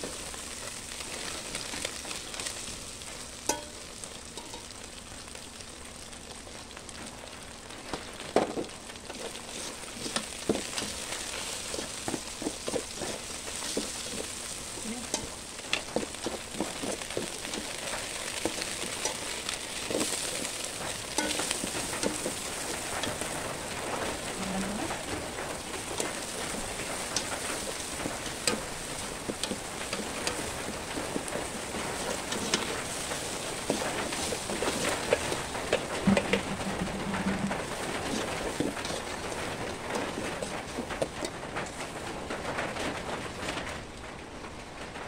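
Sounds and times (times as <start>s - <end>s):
sauce sizzling in pot: 0.0s - 43.4s.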